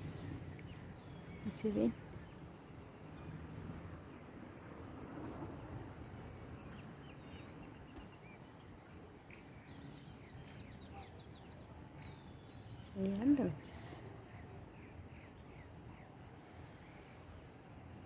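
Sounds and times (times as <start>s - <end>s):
low background hiss: 0.0s - 18.0s.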